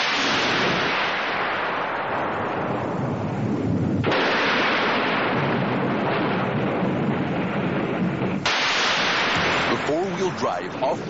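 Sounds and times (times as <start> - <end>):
thunder-like crashing rumble: 0.0 - 11.0.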